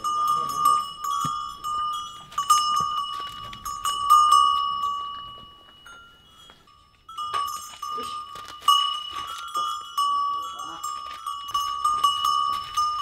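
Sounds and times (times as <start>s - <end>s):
metal livestock bell clanking: 0.0s - 13.0s.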